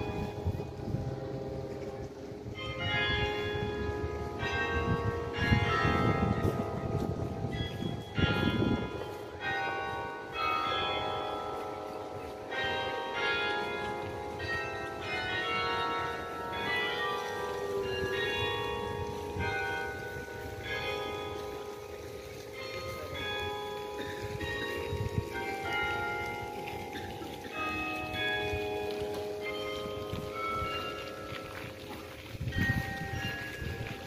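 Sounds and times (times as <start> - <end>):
church bells playing melody: 0.0 - 34.0.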